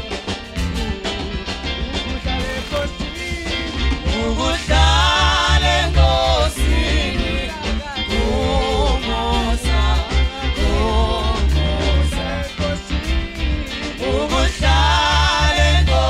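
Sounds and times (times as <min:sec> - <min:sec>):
bass guitar: 0:00.0 - 0:16.0
drum kit: 0:00.0 - 0:16.0
lead singer singing: 0:01.9 - 0:16.0
backing choir singing: 0:02.3 - 0:16.0.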